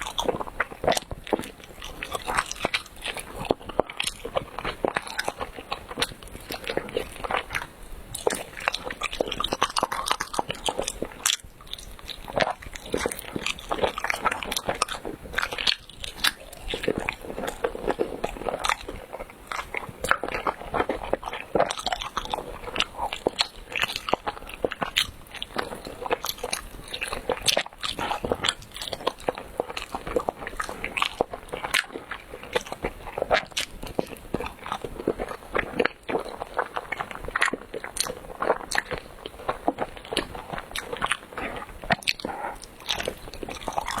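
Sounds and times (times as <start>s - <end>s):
chewing with mouth clicks: 0.0s - 44.0s.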